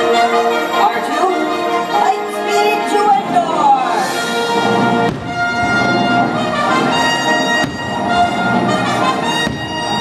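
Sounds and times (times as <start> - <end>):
orchestral music with loud brass: 0.0 - 10.0.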